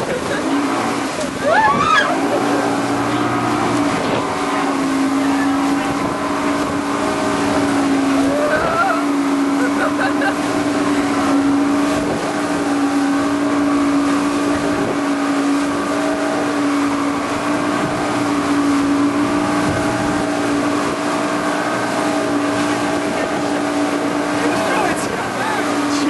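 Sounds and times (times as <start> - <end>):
motor droning: 0.0 - 26.0.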